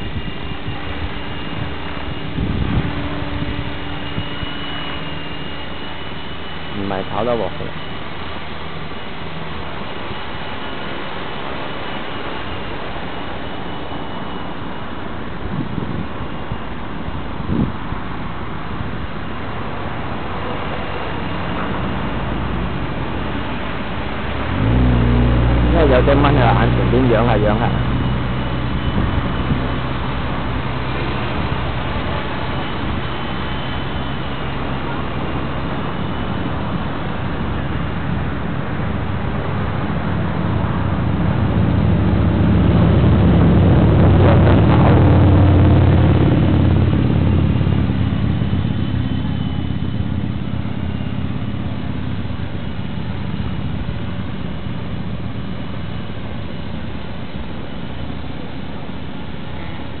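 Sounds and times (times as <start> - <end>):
radio-controlled helicopter rotor hum: 0.0 - 60.0.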